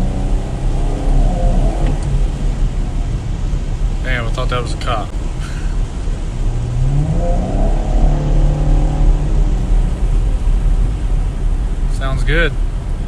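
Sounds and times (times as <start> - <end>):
car exhaust accelerating: 0.0 - 13.0
road rumble: 0.0 - 13.0.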